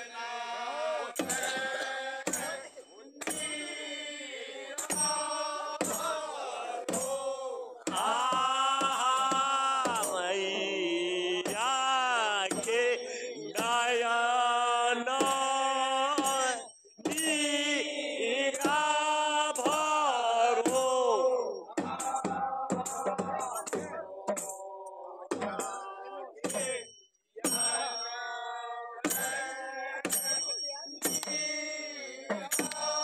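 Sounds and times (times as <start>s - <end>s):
men singing in chorus: 0.0s - 30.5s, 31.2s - 33.0s
drum beats: 1.1s - 3.8s, 4.8s - 13.0s, 13.6s - 14.1s, 15.1s - 17.7s, 18.6s - 27.9s, 29.0s - 33.0s.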